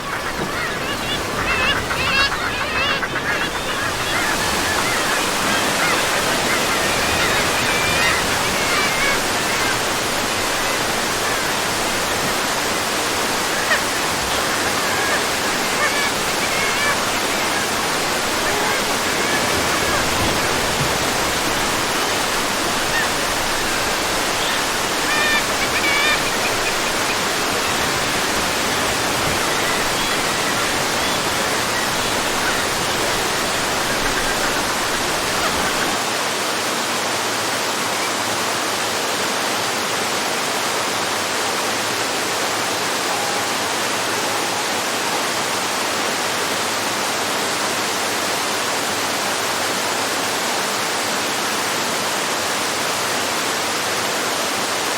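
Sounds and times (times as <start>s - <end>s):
small waterfall flowing: 0.0s - 54.9s.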